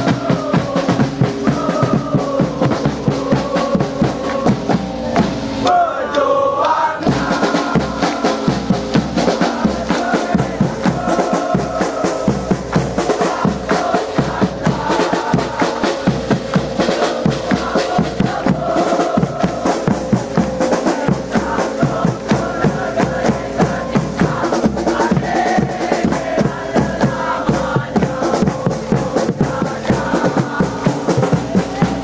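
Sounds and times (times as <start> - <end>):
group chanting: 0.0 - 32.0
marching drums beating: 0.0 - 32.0.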